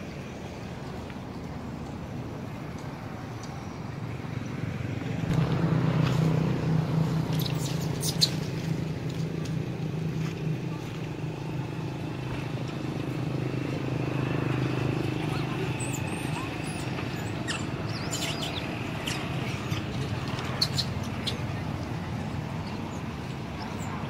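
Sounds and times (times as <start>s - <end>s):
motor vehicle engine humming: 0.0s - 24.0s.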